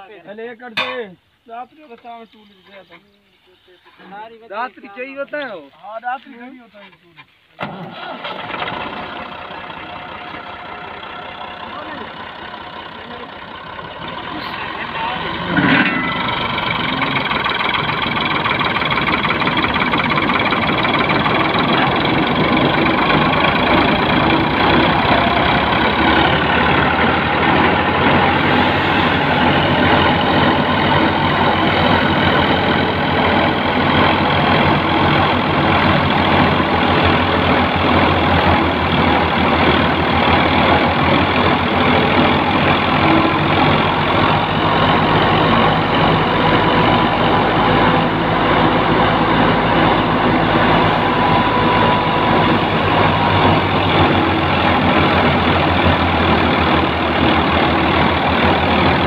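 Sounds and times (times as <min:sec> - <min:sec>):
tractor engine under load: 0:00.8 - 0:59.0
wheat thresher running: 0:07.6 - 0:59.0.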